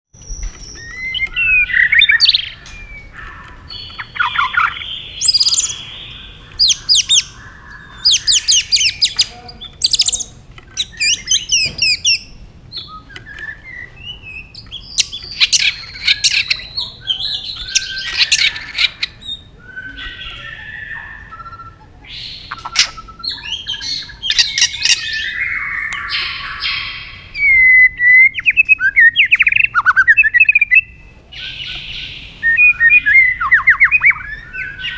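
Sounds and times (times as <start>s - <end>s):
bird singing whistles and trills: 0.2s - 34.9s.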